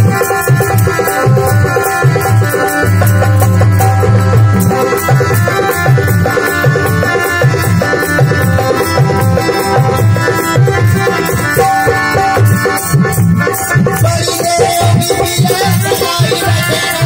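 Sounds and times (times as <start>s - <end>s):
sustained instrumental drone: 0.0s - 15.6s
hand drum beating: 0.0s - 17.0s
quick ticking percussion: 0.0s - 17.0s.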